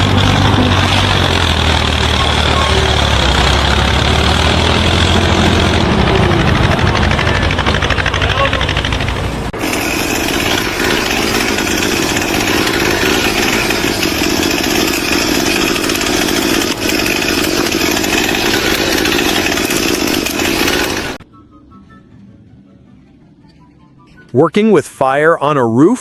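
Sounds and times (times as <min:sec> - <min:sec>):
power tool running: 0:00.0 - 0:21.2.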